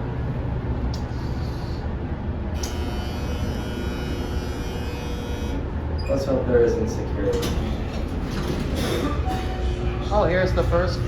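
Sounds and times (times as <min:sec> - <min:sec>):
elevator low hum: 0:00.0 - 0:11.0.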